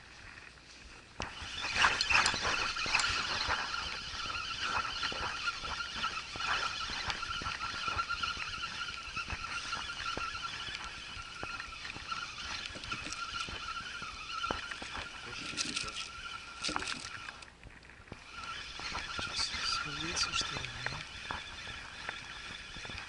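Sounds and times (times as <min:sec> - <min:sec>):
fishing reel whirring: 0:00.0 - 0:23.0.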